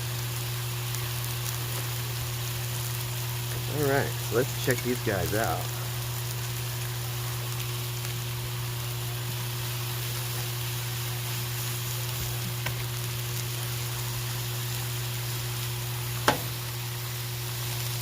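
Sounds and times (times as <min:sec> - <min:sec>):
meat sizzling on griddle: 0:00.0 - 0:18.0.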